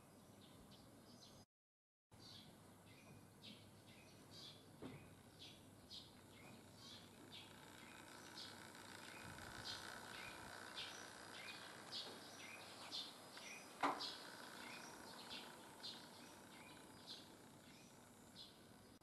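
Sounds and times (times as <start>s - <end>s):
small birds chirping: 0.0s - 1.5s, 2.2s - 19.0s.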